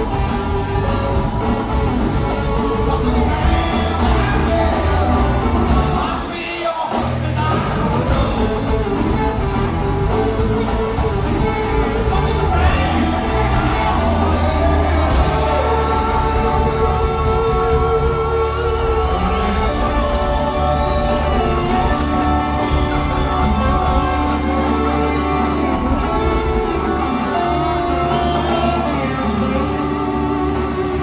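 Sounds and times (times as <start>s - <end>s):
man singing lead vocals: 0.0s - 9.5s, 10.6s - 31.0s
blues-rock band playing: 0.0s - 31.0s.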